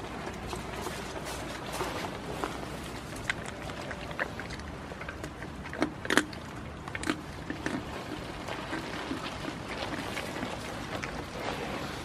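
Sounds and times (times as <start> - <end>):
goat crunching peanut shell: 0.0 - 11.9.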